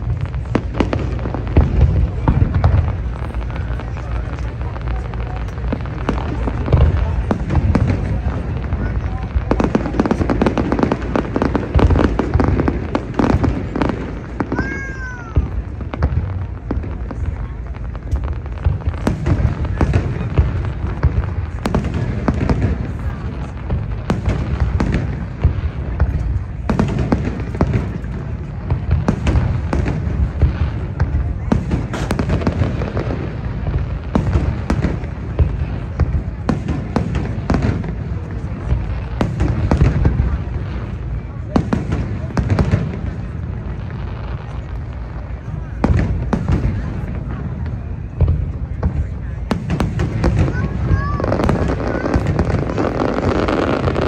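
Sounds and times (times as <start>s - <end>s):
fireworks bangs and pops: 0.0s - 54.0s.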